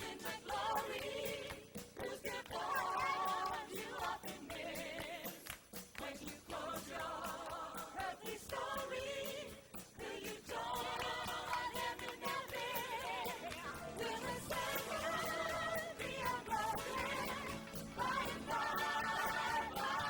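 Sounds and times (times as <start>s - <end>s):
backing music: 0.0s - 20.0s
voices singing in harmony: 0.0s - 20.0s.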